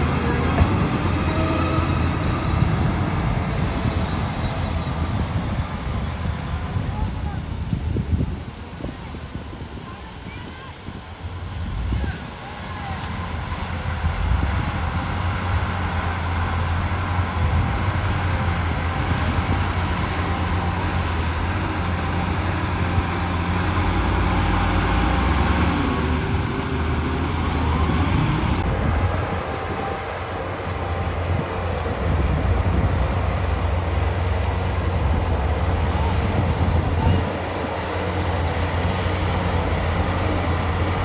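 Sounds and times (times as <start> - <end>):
diesel machinery engine rumble: 0.0 - 41.0.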